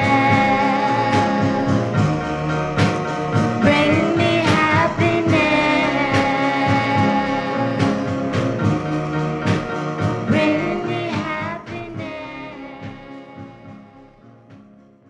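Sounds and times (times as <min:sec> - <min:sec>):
drum hits: 0:00.0 - 0:14.7
soul record playing: 0:00.0 - 0:14.8.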